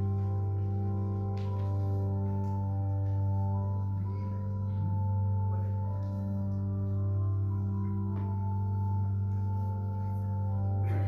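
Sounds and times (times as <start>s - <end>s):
slow organ chords: 0.0s - 11.0s.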